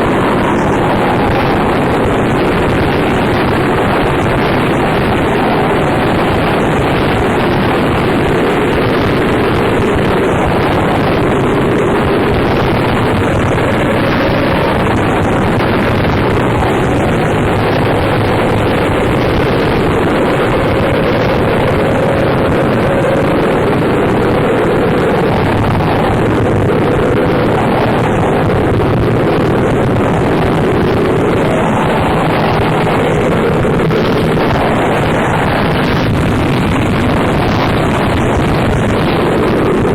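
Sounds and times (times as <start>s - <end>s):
faint wavering drone: 0.0s - 39.9s
harsh distorted noise music: 0.0s - 39.9s.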